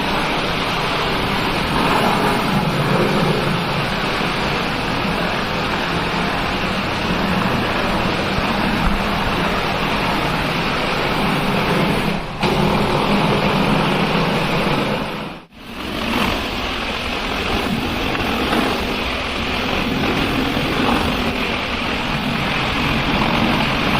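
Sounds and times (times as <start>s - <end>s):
machine running with rushing noise: 0.0s - 23.9s.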